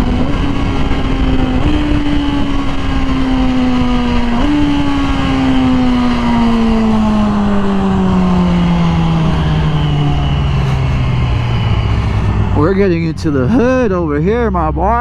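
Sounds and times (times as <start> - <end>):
wind noise on microphone: 0.0 - 13.6
motorcycle engine decelerating: 0.0 - 15.0.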